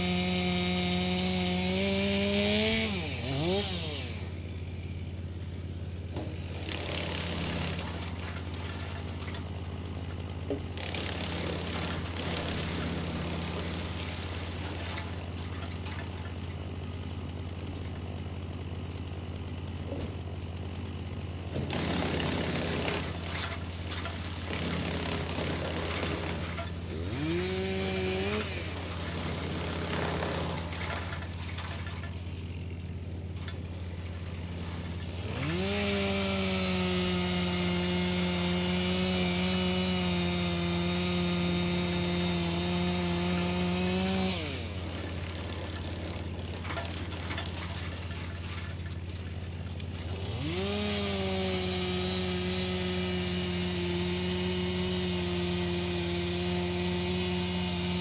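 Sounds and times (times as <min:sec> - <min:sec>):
wood chipper engine drone: 0:00.0 - 0:58.0
wood grinding and crunching: 0:00.0 - 0:58.0.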